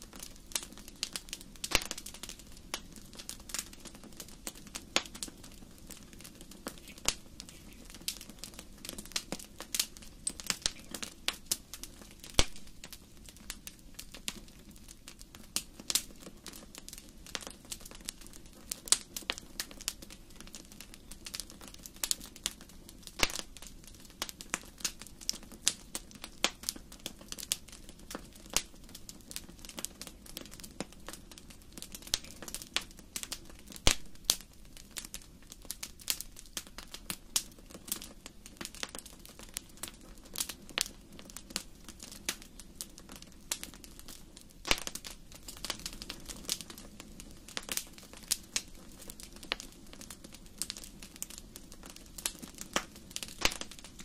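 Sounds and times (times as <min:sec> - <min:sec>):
low hiss of flames: 0:00.0 - 0:54.0
wood fire crackling and popping: 0:00.0 - 0:54.0.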